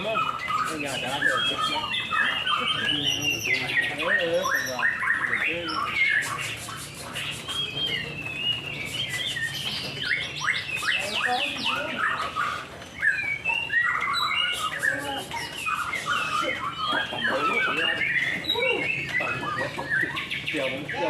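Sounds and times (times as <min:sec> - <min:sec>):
birds singing whistled trills: 0:00.0 - 0:21.0.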